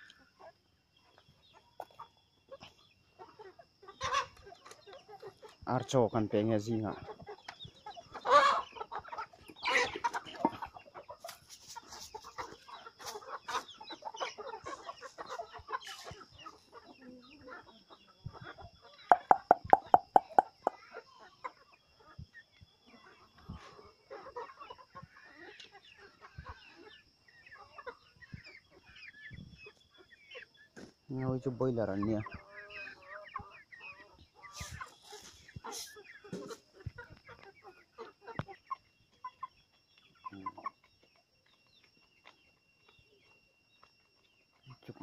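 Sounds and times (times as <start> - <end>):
chickens clucking and calling: 0.0 - 45.0.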